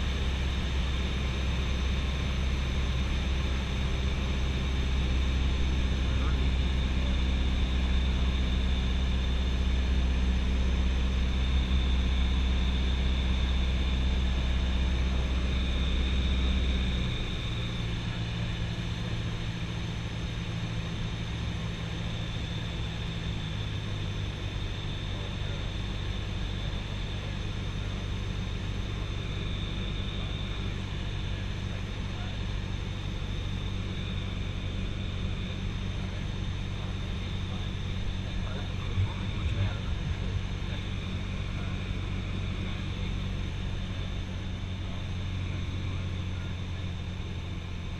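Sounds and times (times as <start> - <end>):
plane engine and propeller drone: 0.0 - 47.9.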